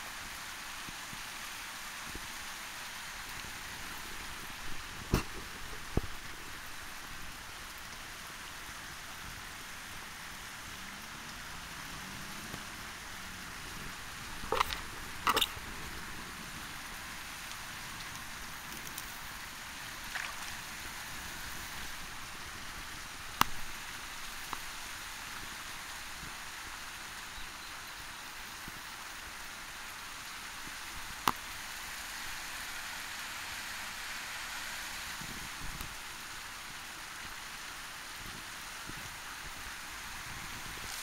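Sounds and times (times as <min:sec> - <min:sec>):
outdoor background hiss: 0:00.0 - 0:41.0.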